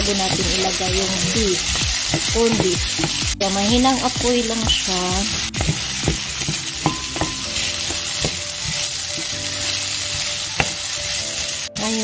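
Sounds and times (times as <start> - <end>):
spatula knocking and scraping pan: 0.0 - 11.0
potatoes sizzling in oil: 0.0 - 12.0.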